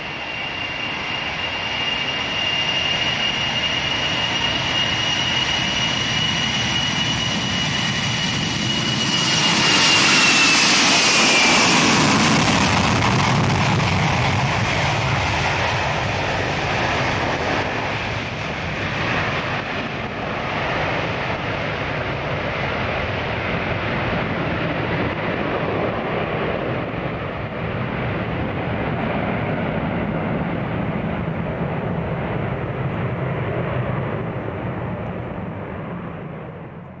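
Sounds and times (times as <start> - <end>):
jet engines at takeoff: 0.0 - 37.0.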